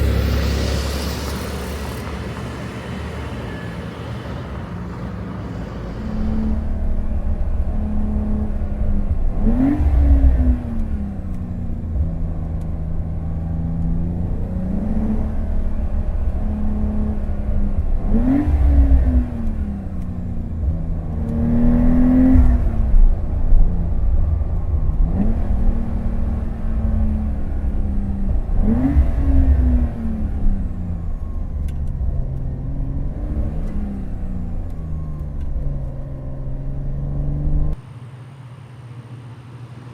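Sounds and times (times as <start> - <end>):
car engine revving: 0.0 - 37.8.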